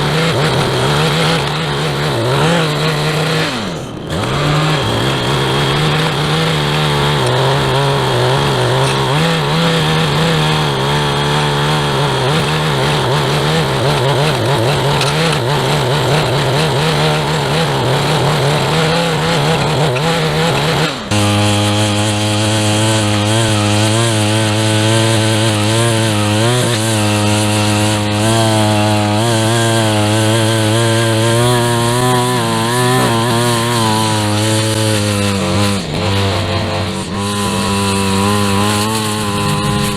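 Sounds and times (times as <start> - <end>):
small two-stroke engine running: 0.0 - 39.9.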